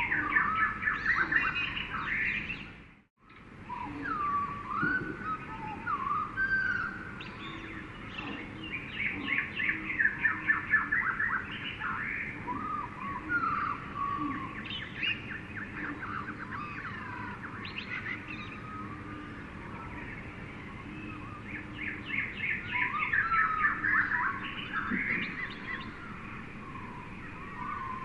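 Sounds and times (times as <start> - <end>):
birds whistling and chirping: 0.0 - 28.0.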